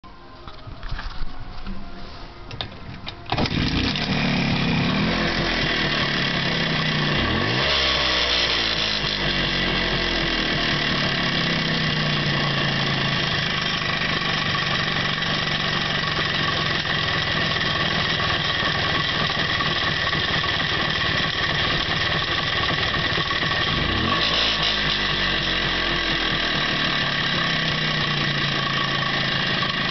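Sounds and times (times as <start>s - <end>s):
motorcycle engine starting and idling: 2.5s - 29.9s.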